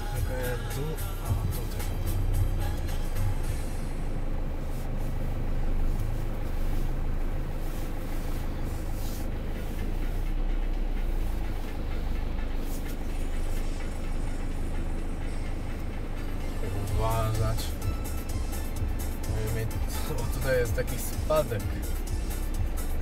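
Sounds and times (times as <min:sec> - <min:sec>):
van engine low hum: 0:00.0 - 0:23.0.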